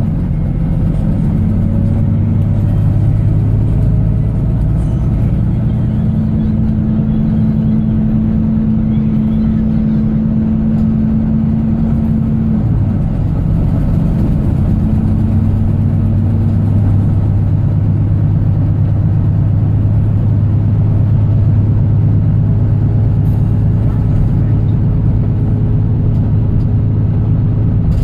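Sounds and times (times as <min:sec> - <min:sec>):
diesel bus engine running: 0:00.0 - 0:28.0.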